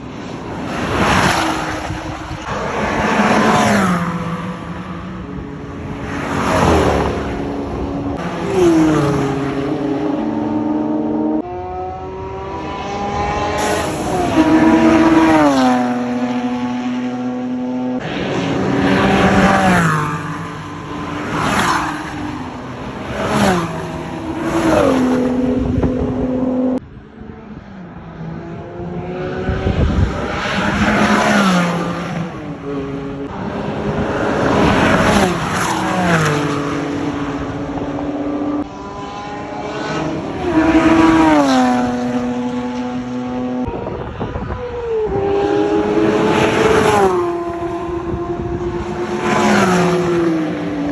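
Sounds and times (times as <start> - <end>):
racing cars passing at high revs: 0.0 - 50.9.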